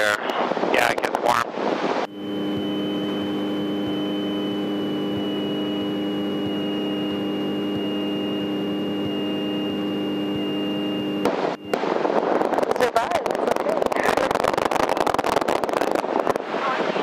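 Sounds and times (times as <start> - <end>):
light airplane engine drone: 2.0 - 17.0.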